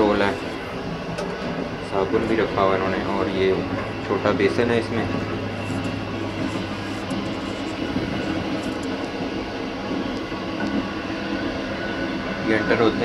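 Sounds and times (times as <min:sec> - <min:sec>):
train coach rumbling: 0:00.0 - 0:13.0.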